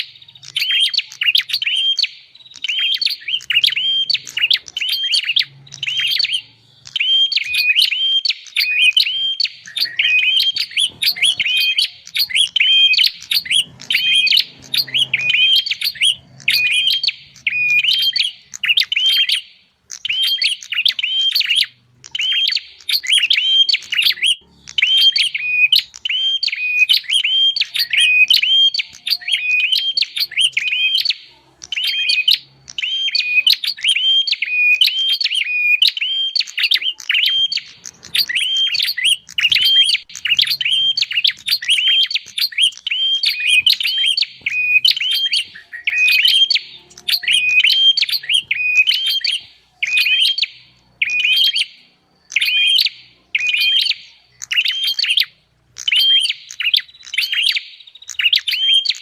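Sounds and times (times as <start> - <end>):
recorded bird chirps: 0.0 - 59.0.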